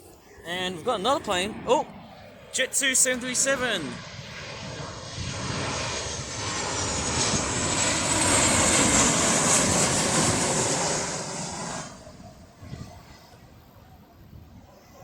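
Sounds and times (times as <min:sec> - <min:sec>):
jet airliner flying past: 0:00.0 - 0:15.0.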